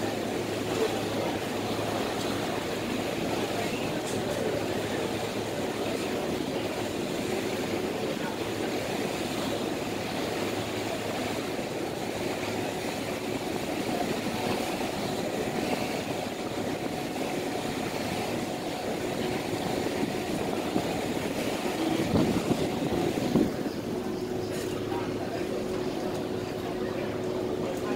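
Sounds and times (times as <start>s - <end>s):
ferry engine hum: 0.0s - 27.9s
water noise: 0.0s - 27.9s
wind: 0.0s - 27.9s.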